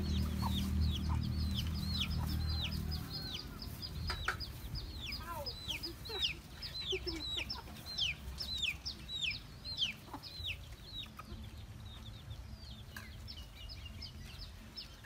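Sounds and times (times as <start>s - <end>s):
chickens cheeping: 0.0s - 15.0s.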